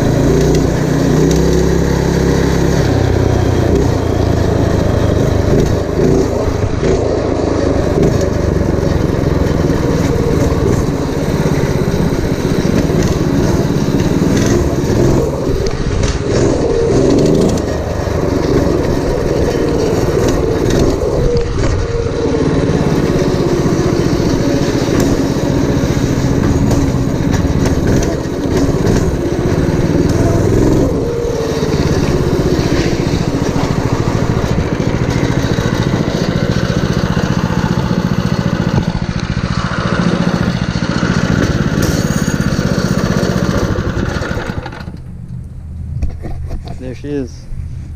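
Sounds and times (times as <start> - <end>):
minibike engine revving: 0.0 - 46.7.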